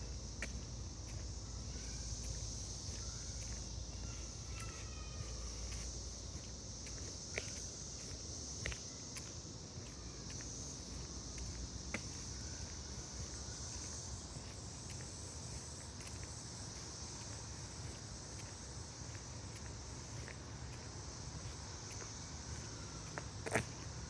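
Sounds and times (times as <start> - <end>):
footsteps on woodland trail: 0.0 - 24.0
insect chorus: 0.0 - 24.0.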